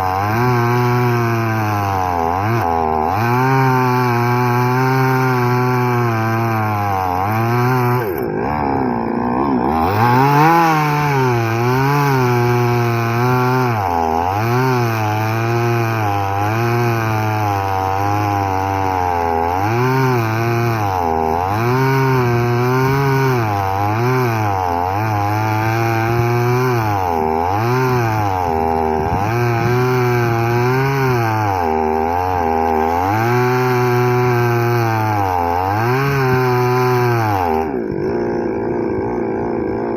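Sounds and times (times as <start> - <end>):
chainsaw cutting into wood: 0.0 - 39.9.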